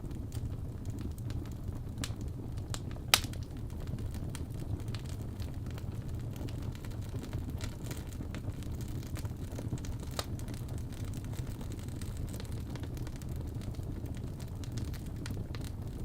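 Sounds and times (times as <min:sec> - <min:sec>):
fire crackles and pops: 0:00.0 - 0:16.0
fire rumbling: 0:00.0 - 0:16.0.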